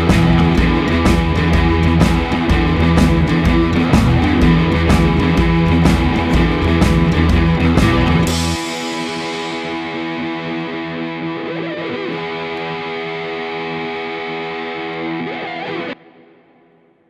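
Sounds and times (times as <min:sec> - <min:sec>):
distorted electric guitar chord: 0:00.0 - 0:16.9.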